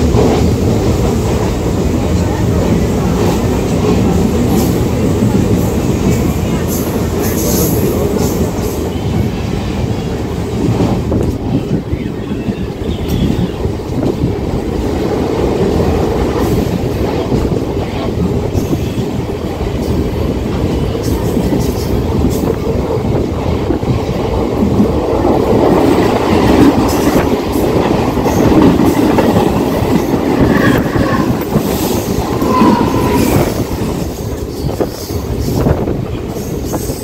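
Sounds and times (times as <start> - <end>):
passing train: 0.0 - 37.0
train wheels clickety-clack: 0.0 - 37.0.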